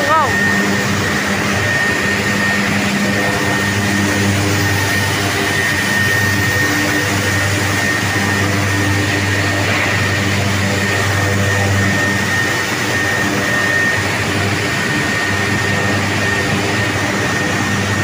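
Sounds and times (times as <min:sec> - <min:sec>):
high-pitched machine whine: 0:00.0 - 0:18.0
machinery low hum: 0:00.0 - 0:18.0.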